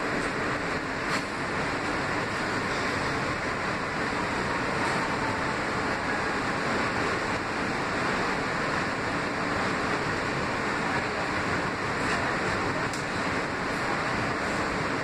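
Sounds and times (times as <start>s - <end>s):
subway car running noise: 0.0s - 15.0s.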